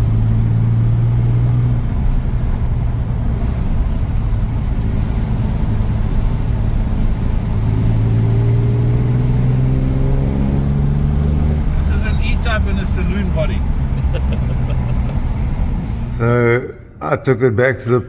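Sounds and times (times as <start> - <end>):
car engine running: 0.0 - 16.7.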